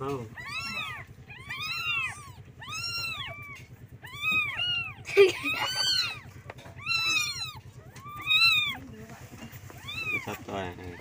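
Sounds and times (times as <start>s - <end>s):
kittens meowing: 0.0s - 9.0s, 9.7s - 11.0s.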